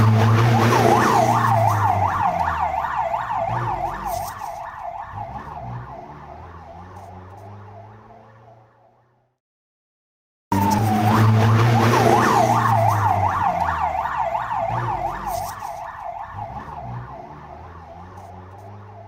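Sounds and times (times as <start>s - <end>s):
police siren yelping: 0.0s - 9.2s, 10.5s - 19.0s.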